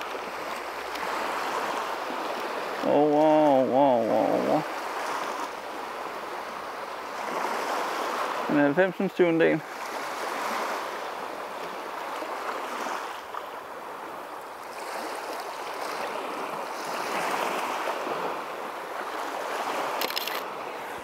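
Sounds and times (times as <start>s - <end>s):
small waves washing onto shore: 0.0s - 21.0s.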